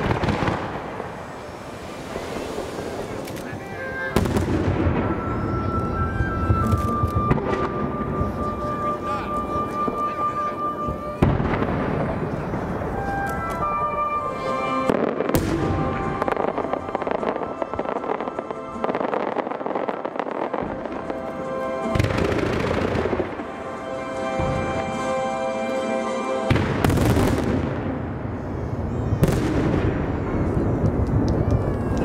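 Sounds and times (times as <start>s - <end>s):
music: 1.4s - 32.0s.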